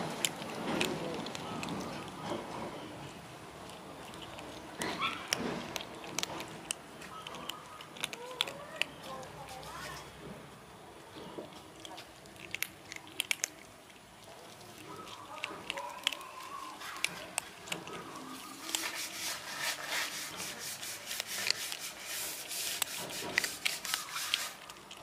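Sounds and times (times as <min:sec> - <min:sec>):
kittens crunching dry kibble: 0:00.0 - 0:10.3, 0:10.9 - 0:25.0.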